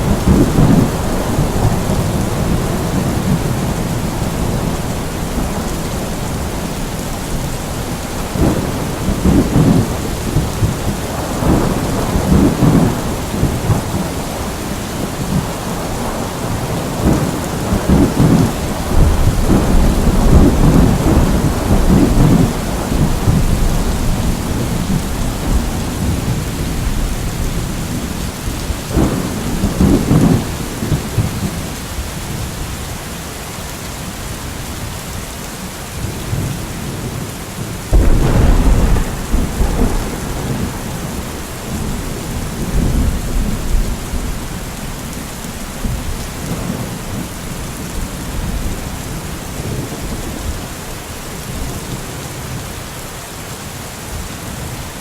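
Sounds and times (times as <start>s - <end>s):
thunder rumbling: 0.0s - 31.6s, 36.3s - 50.6s
steady rain: 0.0s - 55.0s.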